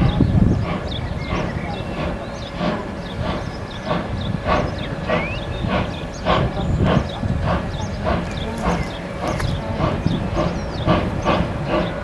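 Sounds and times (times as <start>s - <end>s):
birds chirping: 0.0s - 12.0s
steam locomotive chuffing: 0.0s - 12.0s.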